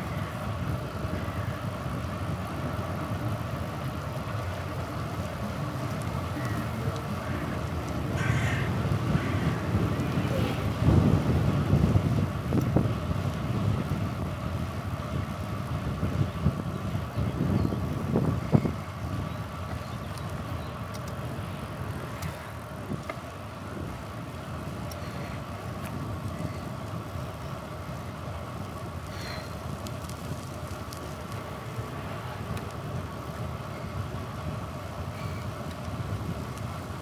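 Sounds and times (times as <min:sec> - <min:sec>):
tyre and road rumble: 0:00.0 - 0:37.0
wind buffeting microphone: 0:00.0 - 0:37.0.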